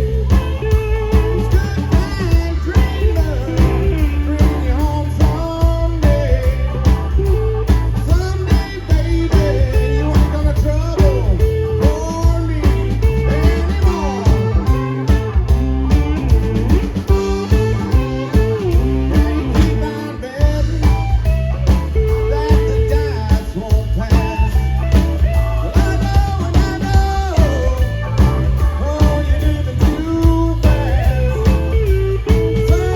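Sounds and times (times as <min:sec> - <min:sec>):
blues-rock band playing: 0:00.0 - 0:32.9
electric guitar bending notes: 0:00.0 - 0:32.9.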